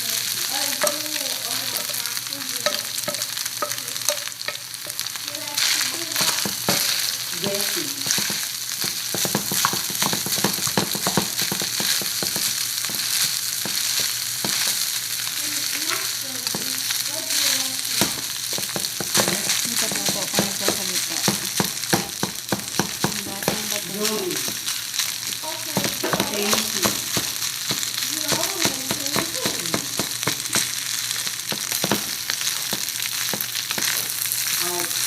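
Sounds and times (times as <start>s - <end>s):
rice sizzling in a hot pan: 0.0s - 35.0s.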